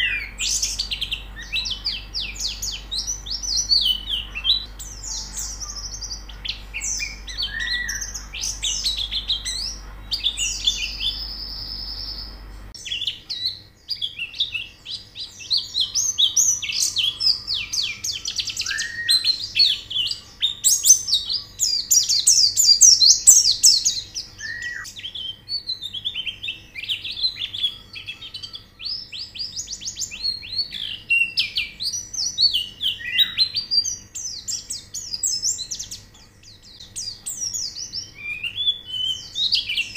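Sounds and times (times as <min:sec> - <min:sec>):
downward-slurred bird whistle: 0:00.0 - 0:34.7, 0:37.6 - 0:39.9
birds twittering and trilling: 0:00.0 - 0:39.9.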